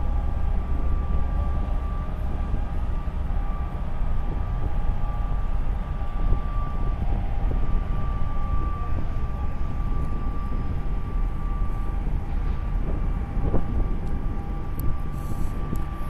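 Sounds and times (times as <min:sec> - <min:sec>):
marine engine low rumble: 0:00.0 - 0:16.0.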